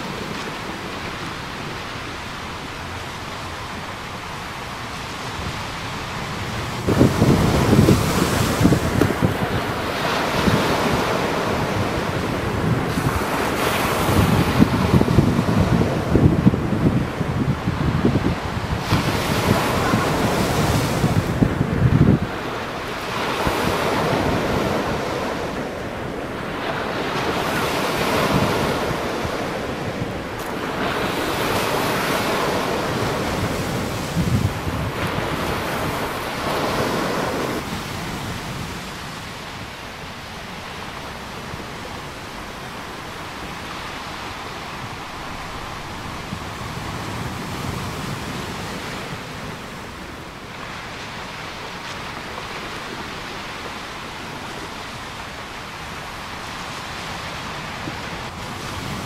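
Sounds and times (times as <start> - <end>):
ocean waves crashing: 0.0 - 59.0
small waves washing on shore: 0.0 - 59.0.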